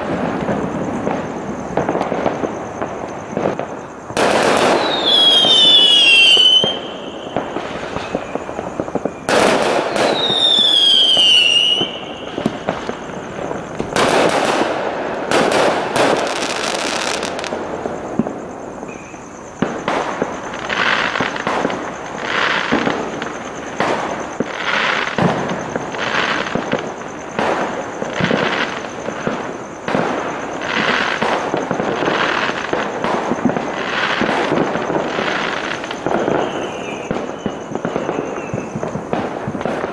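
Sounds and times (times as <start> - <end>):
firework bangs: 0.0 - 39.9
whistling firework: 0.0 - 39.9.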